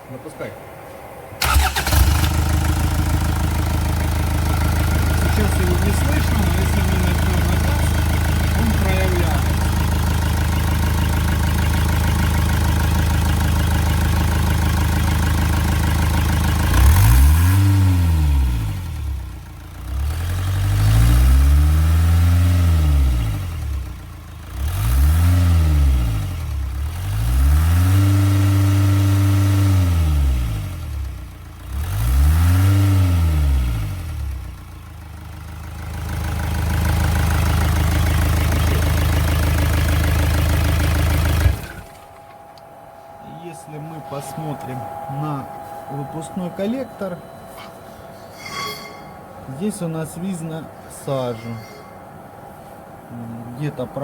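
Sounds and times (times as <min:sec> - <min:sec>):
diesel engine idling and revving: 0:00.6 - 0:44.0.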